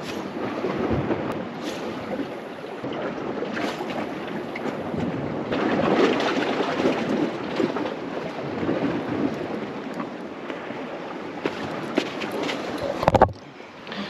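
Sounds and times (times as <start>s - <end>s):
sea washing against rocks: 0.0s - 13.4s
wind on microphone: 0.0s - 13.5s.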